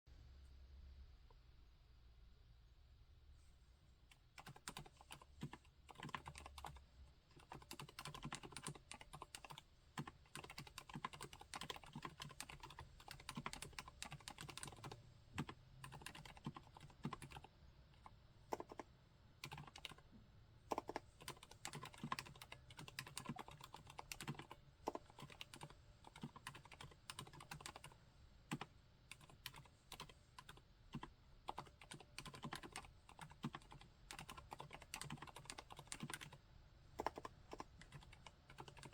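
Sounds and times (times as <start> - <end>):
quiet keyboard typing: 4.1 - 38.9.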